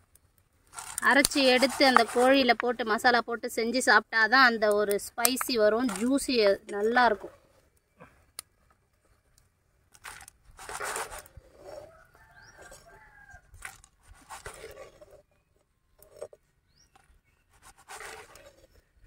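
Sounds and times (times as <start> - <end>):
spices rustling: 0.0 - 3.2, 4.6 - 7.6, 8.5 - 18.9.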